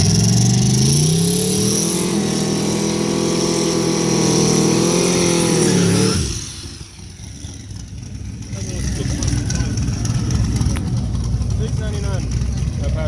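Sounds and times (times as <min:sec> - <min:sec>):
drag racing engines revving: 0:00.0 - 0:13.0.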